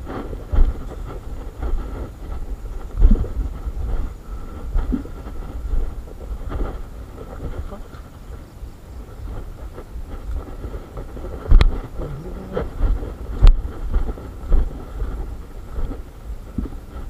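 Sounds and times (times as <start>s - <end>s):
footsteps on dirt trail: 0.0s - 17.0s
wind on microphone: 0.0s - 17.0s.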